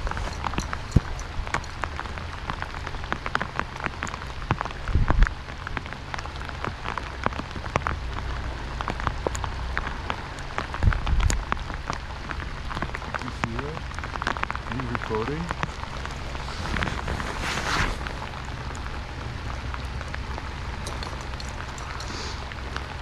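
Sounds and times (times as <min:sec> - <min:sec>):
low steady hum: 0:00.0 - 0:23.0
rain drops ticking: 0:00.0 - 0:23.0.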